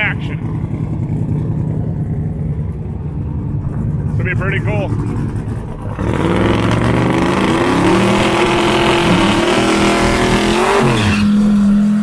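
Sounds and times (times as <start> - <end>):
car engines revving high: 0.0 - 12.0.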